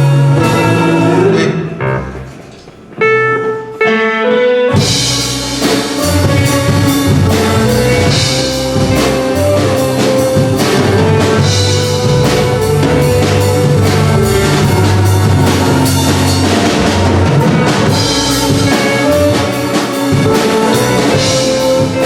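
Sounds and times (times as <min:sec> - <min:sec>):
drum kit beat: 0:00.0 - 0:22.0
live band music: 0:00.0 - 0:22.0.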